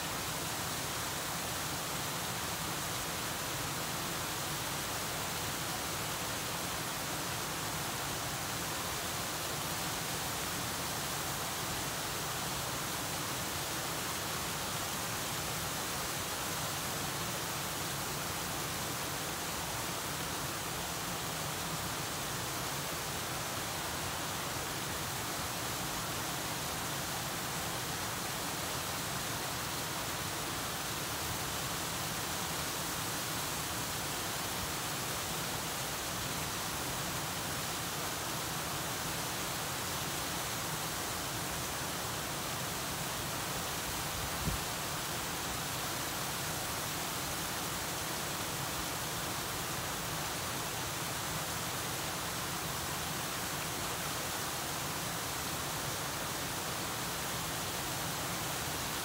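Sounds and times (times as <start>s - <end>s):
small waterfall pouring and splashing: 0.0s - 59.0s.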